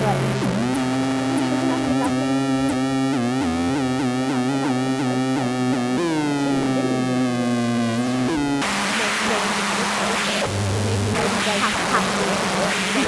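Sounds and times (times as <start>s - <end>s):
steady low hum: 0.0s - 13.0s
wobbling electronic drone: 0.0s - 13.0s.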